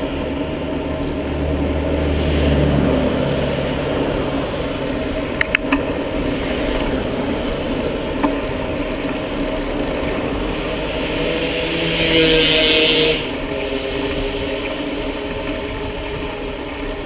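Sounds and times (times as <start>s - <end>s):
bicycle road and wind noise: 0.0s - 17.0s
vehicle engine running: 0.0s - 17.0s.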